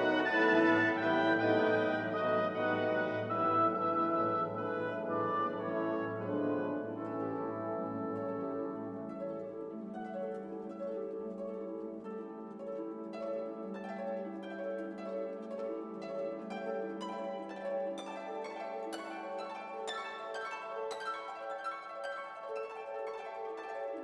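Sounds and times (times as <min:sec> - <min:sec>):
harp-like plucked string music: 0:00.0 - 0:24.0.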